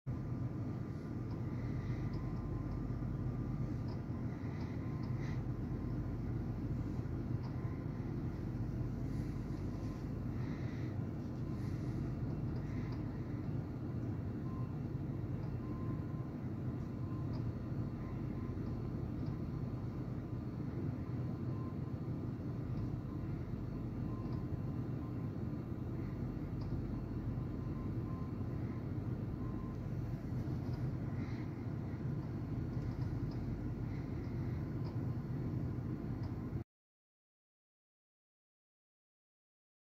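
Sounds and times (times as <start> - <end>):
faint intermittent tone: 0.1 - 36.6
low background rumble: 0.1 - 36.6.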